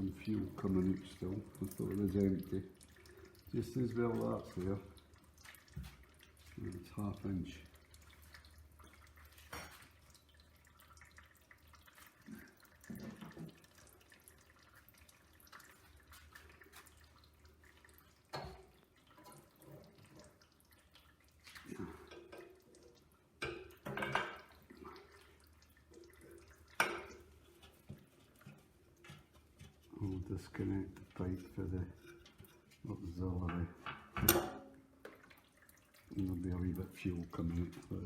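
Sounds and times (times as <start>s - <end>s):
fuel dripping into container: 0.0s - 38.0s.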